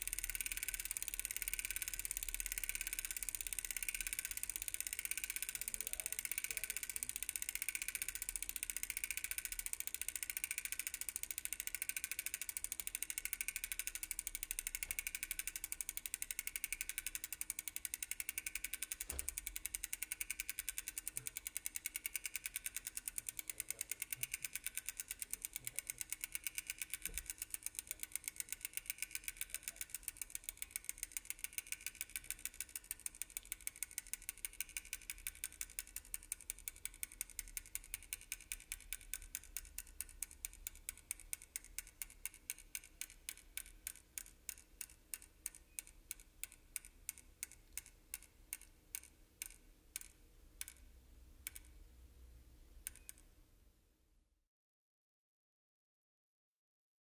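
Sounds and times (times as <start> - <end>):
bicycle freewheel ticking: 0.0 - 51.8, 52.8 - 53.2.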